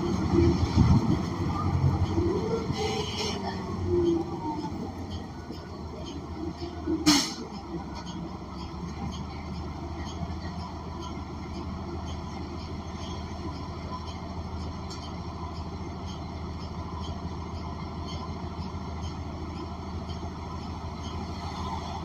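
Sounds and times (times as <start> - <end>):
bus engine humming: 0.0 - 22.0.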